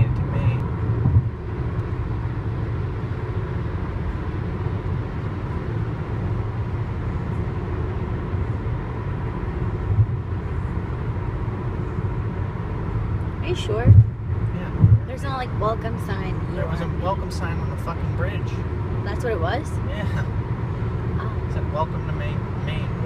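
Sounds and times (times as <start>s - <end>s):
car cabin road and engine noise: 0.0s - 23.0s.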